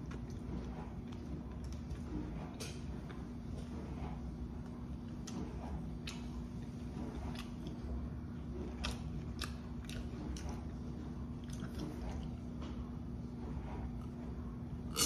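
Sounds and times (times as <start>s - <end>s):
person chewing food: 0.0s - 3.7s, 4.6s - 13.1s
steady low hum: 0.0s - 15.0s.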